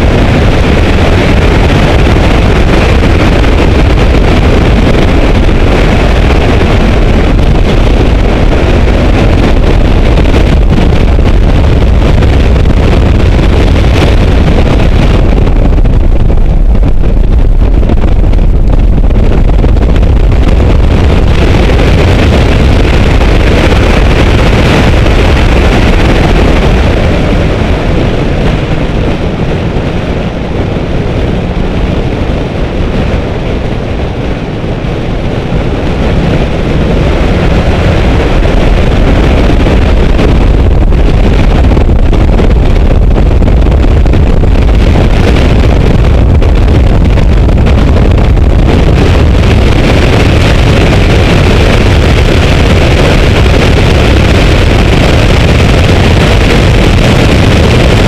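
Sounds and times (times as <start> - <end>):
car engine at speed: 0.0 - 58.0
wind rushing over microphone: 0.0 - 58.0.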